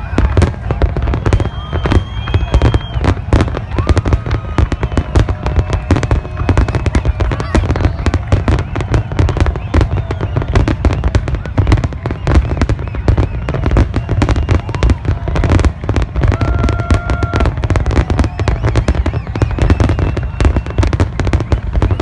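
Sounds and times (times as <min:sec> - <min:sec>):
deep fireworks booms: 0:00.0 - 0:22.0
fireworks bangs and crackles: 0:00.0 - 0:22.0.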